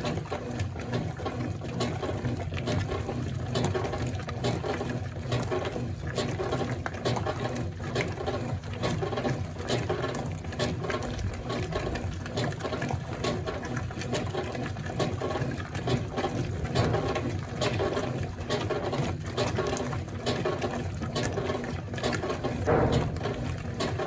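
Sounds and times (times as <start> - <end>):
washing machine drive rumble: 0.0 - 24.0
water sloshing: 0.0 - 24.0.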